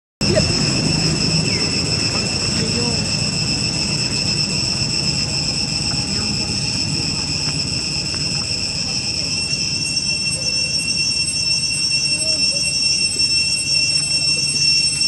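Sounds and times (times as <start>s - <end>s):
high-pitched insect drone: 0.2s - 15.0s.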